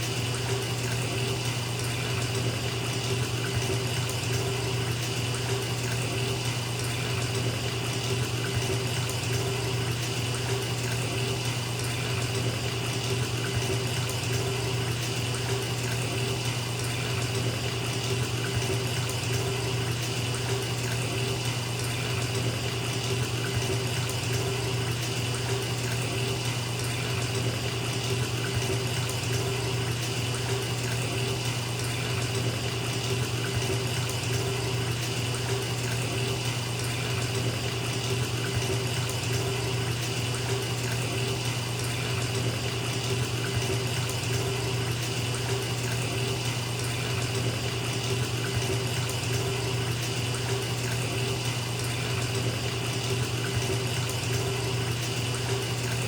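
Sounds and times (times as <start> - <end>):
tap water filling a bathtub: 0.0 - 56.0.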